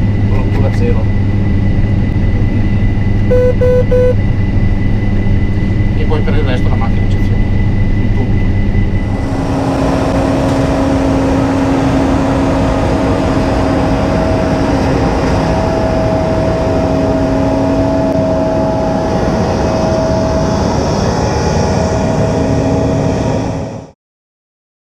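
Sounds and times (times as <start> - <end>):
combine harvester drone: 0.0 - 24.0
steady machine whine: 0.0 - 24.0.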